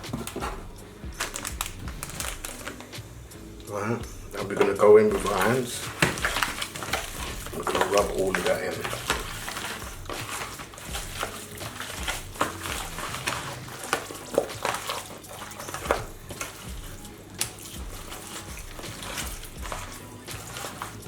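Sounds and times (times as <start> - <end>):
raw chicken squishing and slapping: 0.0 - 3.0, 3.6 - 21.0.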